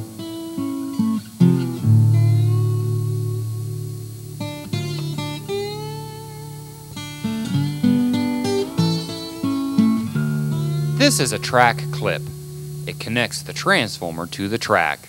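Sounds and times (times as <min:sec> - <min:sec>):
guitar chord and plucked notes: 0:00.0 - 0:15.0.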